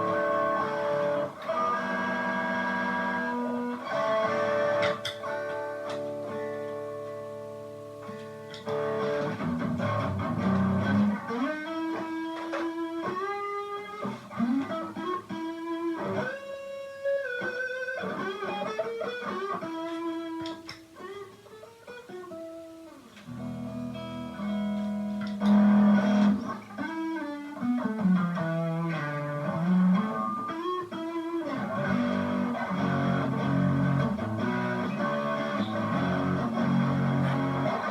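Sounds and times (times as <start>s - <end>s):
electric guitar chords: 0.0s - 37.9s
electric guitar lead lines: 0.0s - 37.9s.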